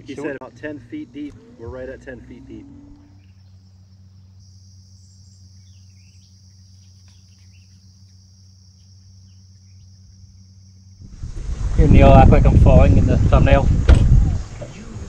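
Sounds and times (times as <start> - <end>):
high-pitched insect chorus: 0.0 - 12.1
low steady hum: 0.0 - 15.0.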